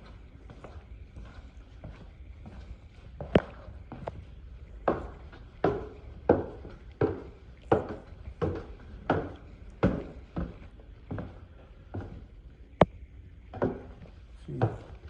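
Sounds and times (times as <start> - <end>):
footsteps on laminate flooring: 0.0 - 12.3, 13.6 - 15.0.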